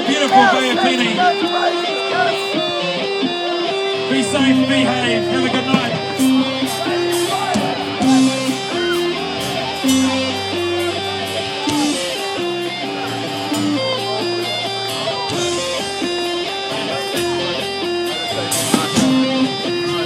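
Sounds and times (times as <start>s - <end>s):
cymbals ticking: 0.0s - 19.8s
bass guitar: 0.0s - 20.0s
drums: 0.0s - 20.0s
electric guitar: 0.0s - 20.0s.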